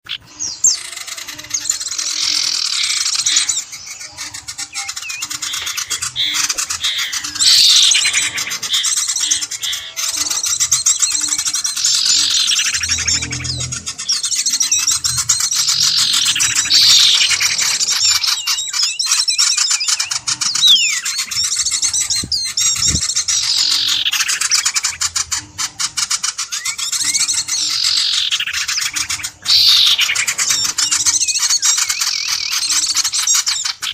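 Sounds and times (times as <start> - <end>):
downward sweeping bird call: 0.0 - 33.9
high-pitched bird chirping: 0.0 - 33.9.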